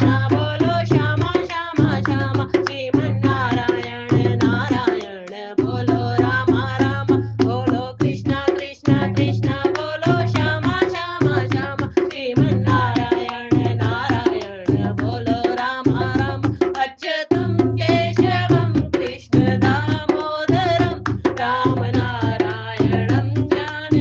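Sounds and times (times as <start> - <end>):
hand drum rhythm: 0.0 - 24.0.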